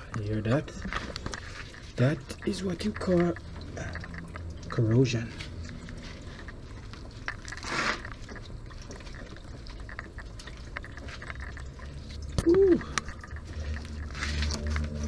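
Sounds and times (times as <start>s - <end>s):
clicks and scraping on hose: 0.0s - 15.0s.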